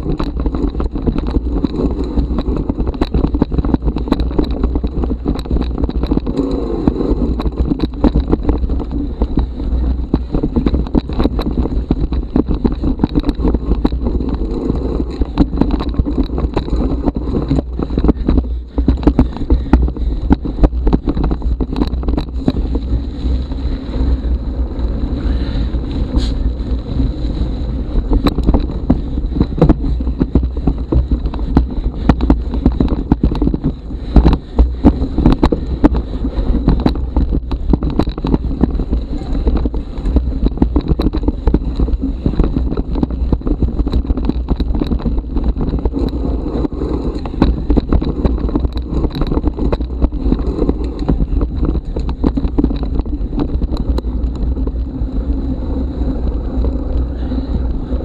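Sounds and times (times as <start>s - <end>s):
bike rattles and knocks: 0.0s - 58.0s
bike tyres on dirt: 0.0s - 58.0s
wind rumble on microphone: 0.0s - 58.0s.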